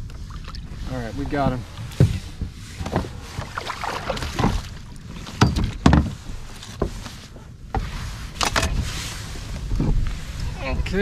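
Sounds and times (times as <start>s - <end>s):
knocks and rustling on kayak: 0.0s - 10.3s.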